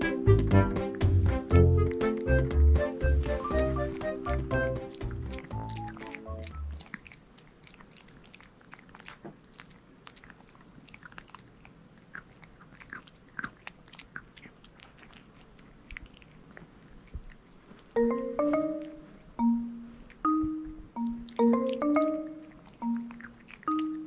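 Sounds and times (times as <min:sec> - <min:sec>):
puppy gnawing a chew: 0:00.0 - 0:24.0.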